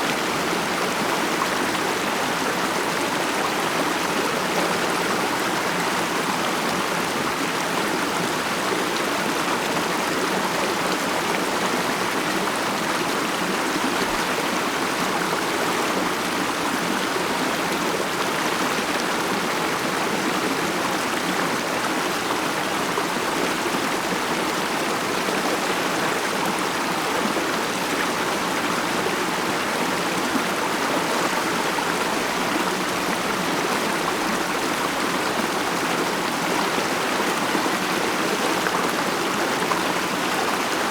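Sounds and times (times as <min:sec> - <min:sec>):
stream running over rocks: 0:00.0 - 0:40.9.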